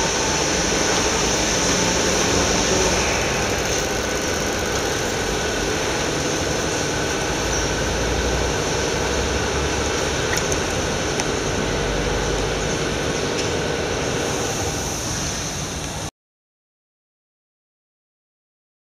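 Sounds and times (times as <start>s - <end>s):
machine humming and whirring: 0.0s - 16.1s.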